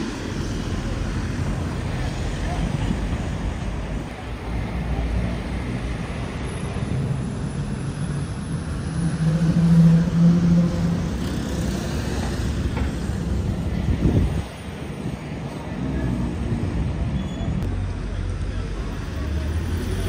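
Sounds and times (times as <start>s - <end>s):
bus humming past: 0.0s - 20.0s
road traffic rumble: 0.0s - 20.0s.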